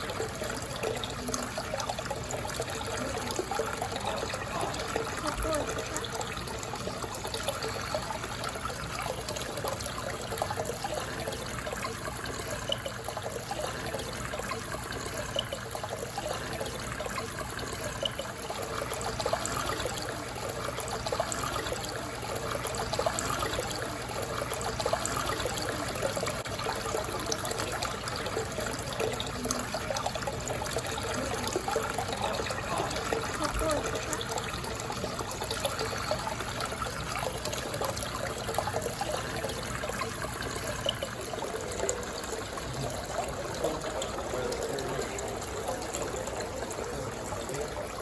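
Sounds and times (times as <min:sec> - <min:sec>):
aquarium water bubbling: 0:00.0 - 0:48.0.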